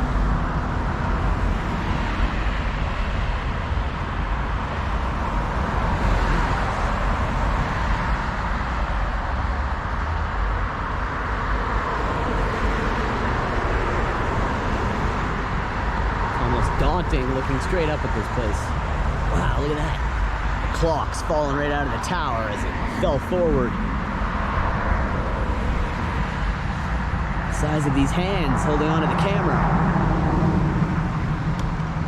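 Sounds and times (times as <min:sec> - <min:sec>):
busy road traffic: 0:00.0 - 0:32.0
heavy low rumble: 0:00.0 - 0:32.0.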